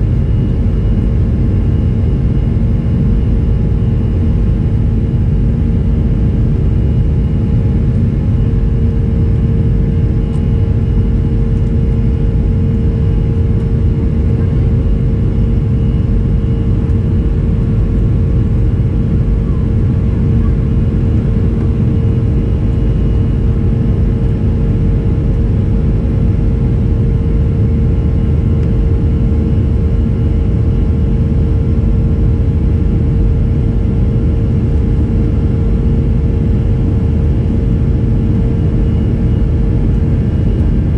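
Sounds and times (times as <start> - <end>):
constant humming tone: 0.0 - 40.9
jet engine drone in cabin: 0.0 - 40.9.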